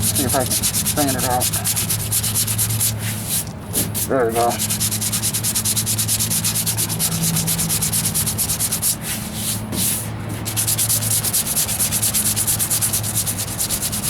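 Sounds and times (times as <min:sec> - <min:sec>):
sandpaper rubbing on metal: 0:00.0 - 0:14.0.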